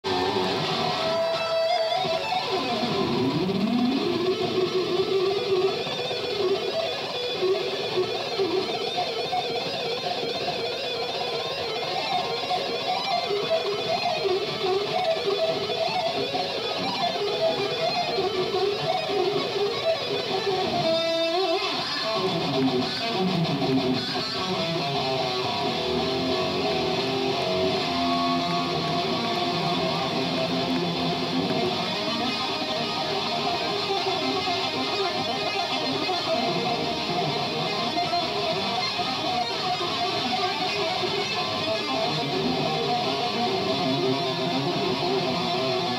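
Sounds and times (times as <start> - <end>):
electric guitar solo: 0.0 - 45.9.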